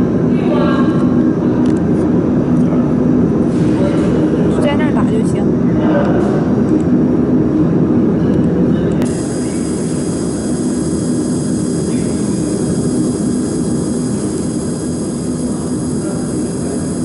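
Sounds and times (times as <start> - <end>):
machine fan whirr: 0.0 - 17.0.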